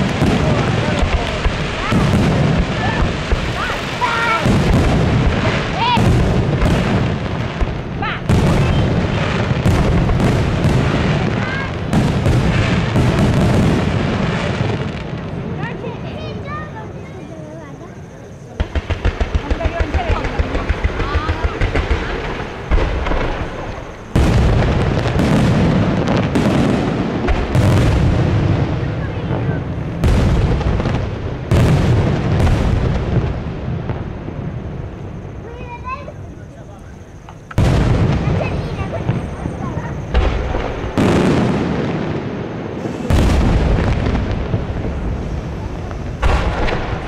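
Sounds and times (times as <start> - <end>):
sharp firework cracks: 0.0 - 16.7, 18.6 - 36.1, 37.1 - 47.0
fireworks booming and crackling: 0.0 - 47.0.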